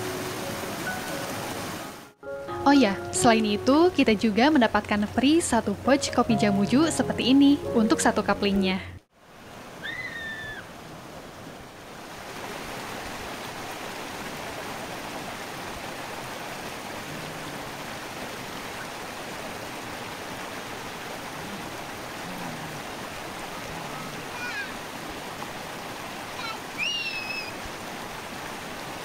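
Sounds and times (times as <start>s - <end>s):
running water rushing: 0.0s - 2.2s, 2.8s - 29.0s.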